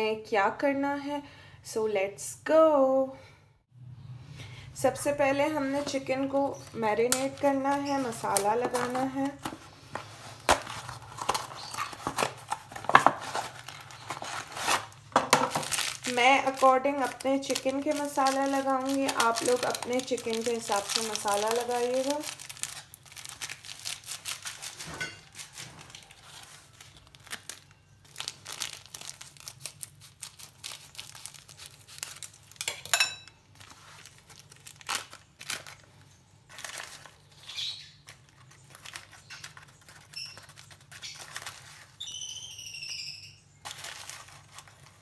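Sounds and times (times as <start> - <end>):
foil packet crinkling: 5.4 - 42.2, 43.6 - 45.0.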